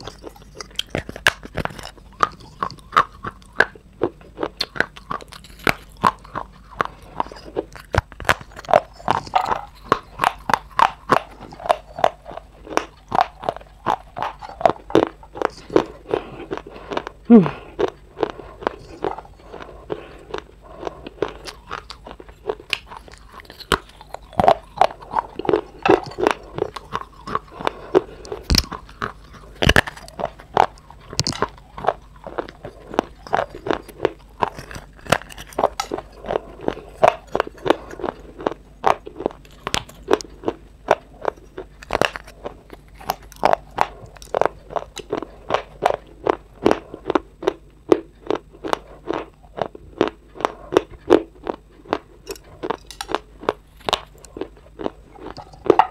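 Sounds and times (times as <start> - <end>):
dry clay crunching while chewed: 0.0 - 55.9.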